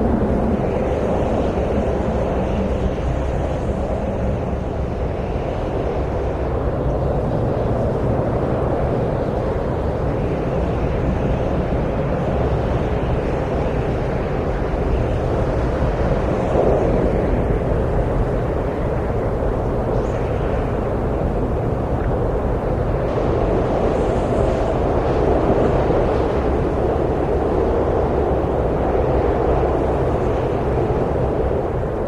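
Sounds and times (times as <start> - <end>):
wind blowing: 0.0 - 32.0.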